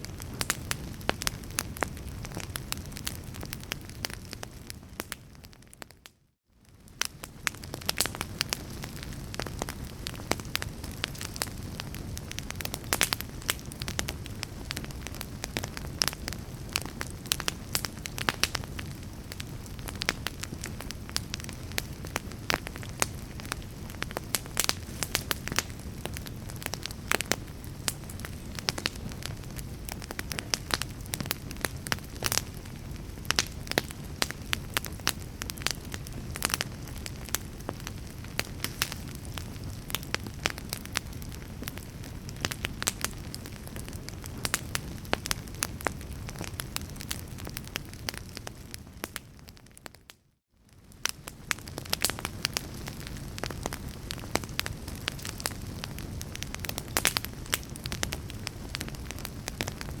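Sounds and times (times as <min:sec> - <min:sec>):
fire pops and snaps: 0:00.0 - 0:50.1, 0:50.7 - 1:00.0
low rumble of fire: 0:00.0 - 1:00.0.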